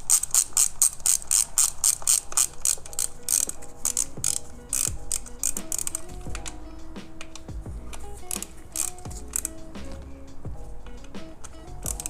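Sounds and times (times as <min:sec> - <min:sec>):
socket ratchet clicking: 0:00.0 - 0:06.6, 0:07.2 - 0:09.6, 0:11.0 - 0:12.0
background music: 0:00.7 - 0:12.0.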